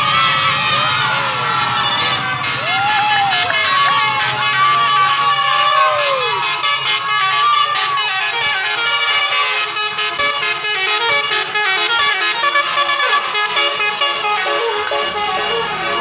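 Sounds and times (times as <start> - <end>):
multi-tone air horn tune: 1.6 - 16.0.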